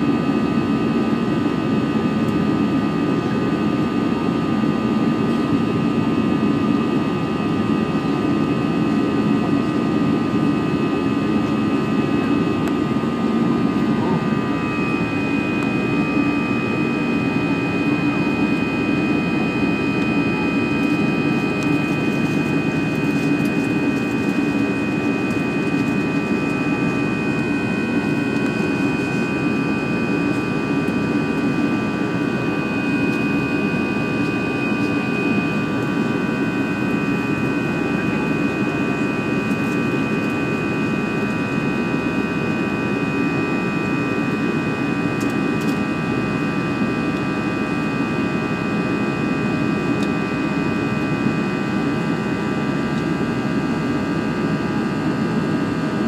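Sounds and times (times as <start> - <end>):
jet engines roaring with whine: 0.0 - 56.0.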